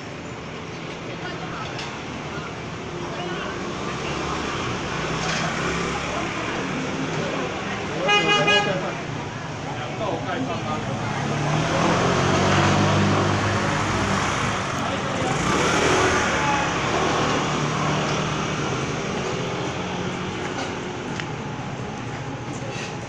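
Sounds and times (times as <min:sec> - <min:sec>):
street noise: 0:00.0 - 0:23.0
vehicle engine humming: 0:00.0 - 0:23.0.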